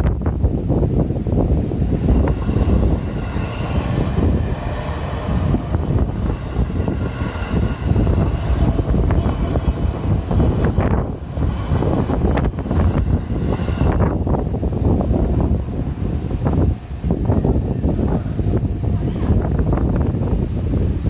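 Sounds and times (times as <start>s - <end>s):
train rumbling past: 0.0s - 21.0s
wind buffeting microphone: 0.0s - 21.0s
faint high whine: 1.5s - 20.8s.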